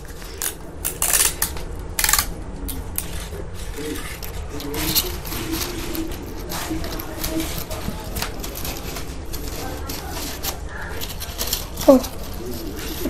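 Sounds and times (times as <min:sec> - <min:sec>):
stiff paper rustling: 0:00.0 - 0:13.0.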